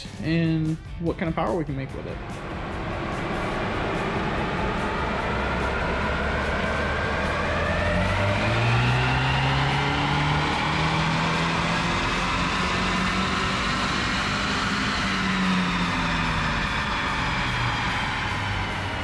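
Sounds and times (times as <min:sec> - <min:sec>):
car engine revving on dyno: 0:02.1 - 0:19.0.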